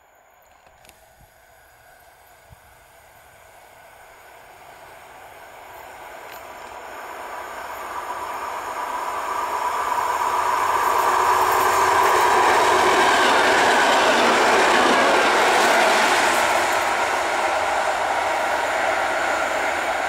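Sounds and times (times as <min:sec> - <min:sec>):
electric train passing on rails: 0:00.0 - 0:20.0.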